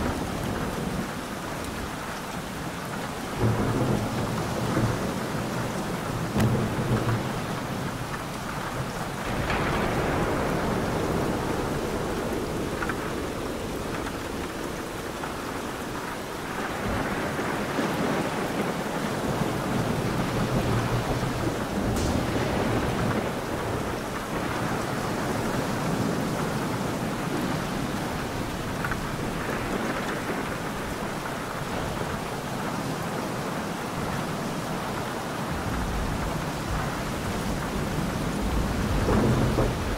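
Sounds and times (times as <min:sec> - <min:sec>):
steady rain patter: 0:00.0 - 0:39.9
thunder rumbling: 0:02.8 - 0:32.8, 0:34.0 - 0:39.9.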